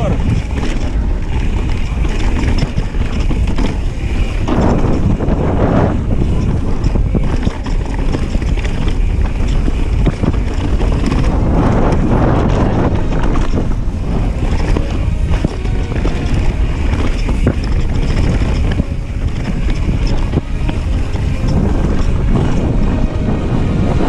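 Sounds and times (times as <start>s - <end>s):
bike rattling on bumps: 0.0s - 24.0s
tyres rolling over dirt: 0.0s - 24.0s
wind buffeting microphone: 0.0s - 24.0s.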